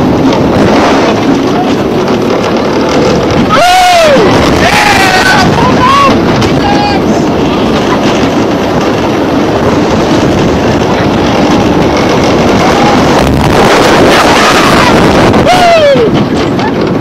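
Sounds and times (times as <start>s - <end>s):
roller coaster track rumble: 0.0s - 17.0s
wind rushing over microphone: 0.0s - 17.0s.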